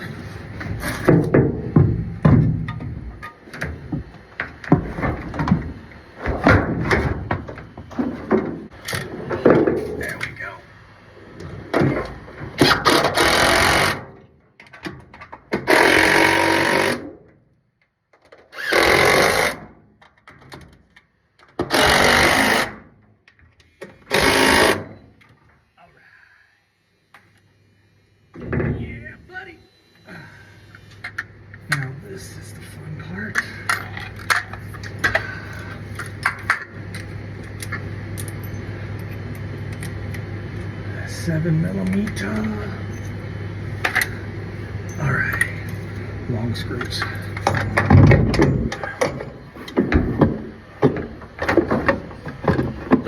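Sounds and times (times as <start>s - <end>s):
steady low hum: 0.0s - 18.0s, 20.8s - 53.0s.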